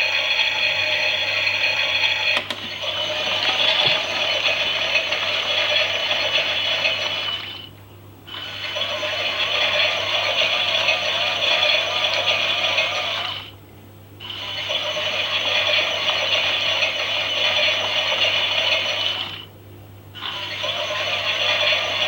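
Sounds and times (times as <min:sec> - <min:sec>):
toy washing machine motor whirring: 0:00.0 - 0:07.7, 0:08.3 - 0:13.5, 0:14.2 - 0:19.5, 0:20.2 - 0:22.0.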